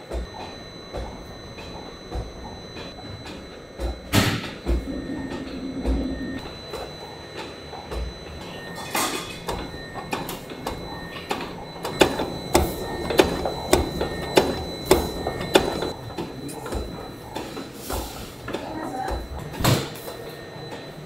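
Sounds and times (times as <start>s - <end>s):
regular machine clack: 0.0s - 20.0s
machinery hum: 0.0s - 21.0s.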